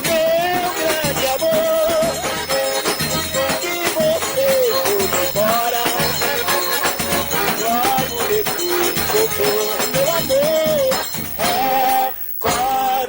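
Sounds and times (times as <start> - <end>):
accordion melody: 0.0 - 13.0
rhythmic percussion: 0.0 - 13.0.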